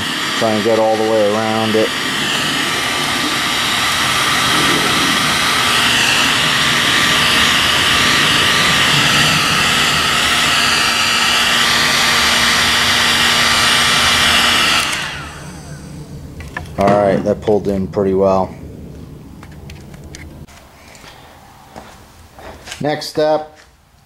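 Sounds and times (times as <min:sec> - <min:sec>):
heat gun fan rushing: 0:00.0 - 0:21.1
faint steady whine: 0:00.0 - 0:22.5.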